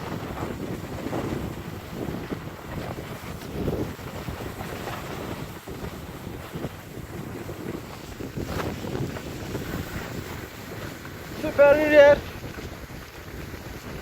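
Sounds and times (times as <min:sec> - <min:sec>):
sliding over snow: 0:00.0 - 0:14.0
wind buffeting microphone: 0:00.0 - 0:14.0.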